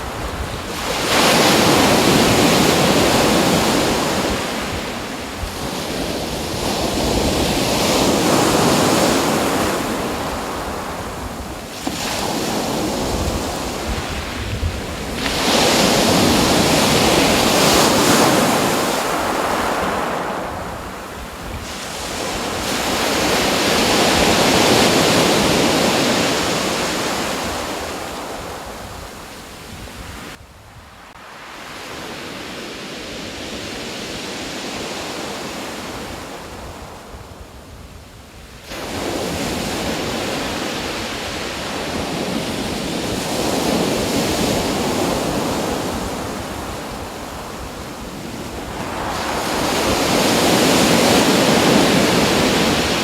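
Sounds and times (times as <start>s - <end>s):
ocean surf breaking: 0.0s - 30.3s, 38.7s - 53.0s.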